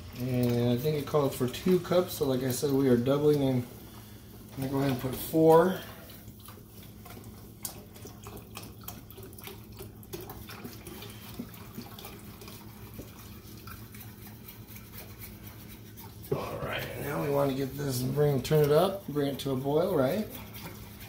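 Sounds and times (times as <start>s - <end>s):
broth pouring into saucepan: 0.0s - 21.0s.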